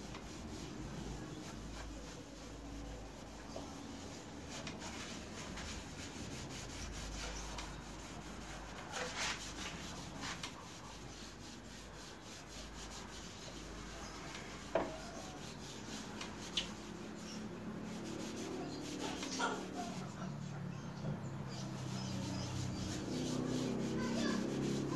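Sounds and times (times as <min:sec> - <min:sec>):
hand rubbing painted metal: 0:00.0 - 0:24.9.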